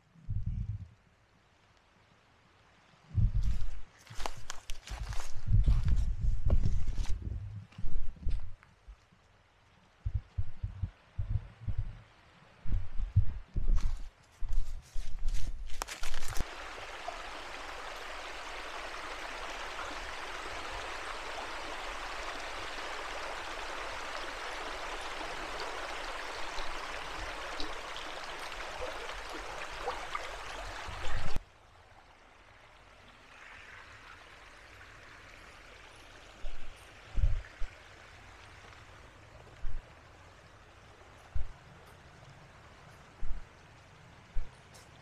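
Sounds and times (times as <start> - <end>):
creek running over stones: 2.5 - 7.2, 13.6 - 45.0.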